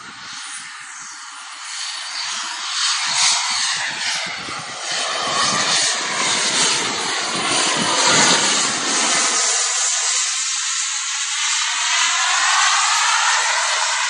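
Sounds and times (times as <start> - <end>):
jet engine flying past: 0.0 - 14.0.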